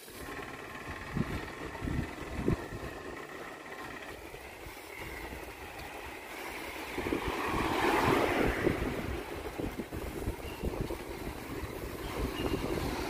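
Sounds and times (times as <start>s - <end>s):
low road rumble: 0.0s - 13.0s
wind rushing over microphone: 0.9s - 3.0s, 4.4s - 13.0s.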